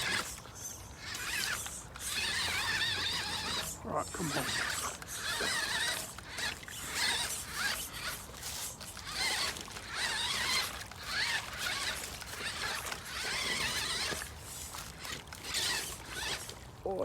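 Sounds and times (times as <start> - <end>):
electric motor whining: 0.0 - 16.6.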